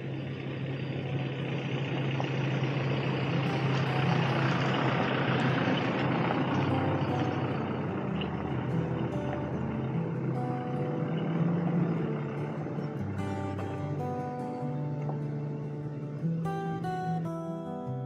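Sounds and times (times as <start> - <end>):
pickup truck engine hum: 0.0 - 16.7.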